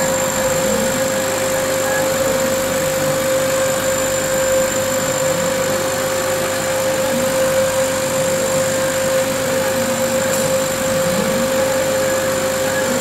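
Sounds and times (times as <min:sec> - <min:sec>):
laser engraver hum and whine: 0:00.0 - 0:13.0.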